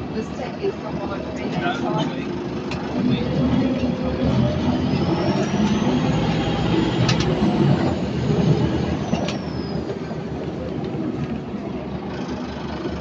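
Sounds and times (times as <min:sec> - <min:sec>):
bus diesel engine under load: 0:00.0 - 0:13.0.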